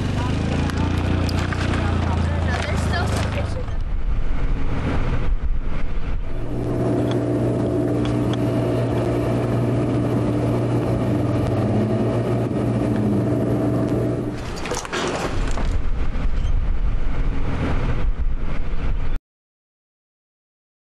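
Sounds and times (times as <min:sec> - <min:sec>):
engine running steadily: 0:00.0 - 0:19.2
outdoor noise: 0:00.0 - 0:19.2.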